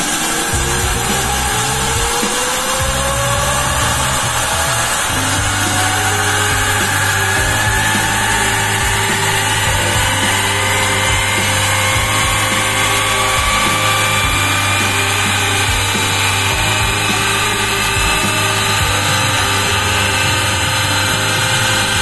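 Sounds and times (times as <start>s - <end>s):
generator hum: 0.0s - 22.0s
rush of steam: 0.0s - 22.0s
turbine whine rising in pitch: 0.0s - 22.0s.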